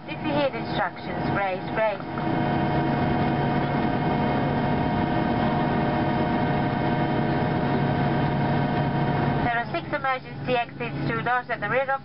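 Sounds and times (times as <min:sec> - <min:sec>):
engine and air system tones: 0:00.0 - 0:11.6
aircraft cabin drone: 0:00.0 - 0:12.0.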